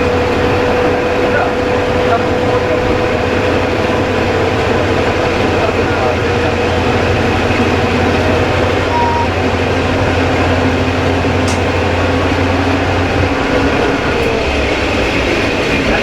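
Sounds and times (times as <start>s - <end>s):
diesel engine droning: 0.0s - 16.0s
train wheels on rails: 0.0s - 16.0s.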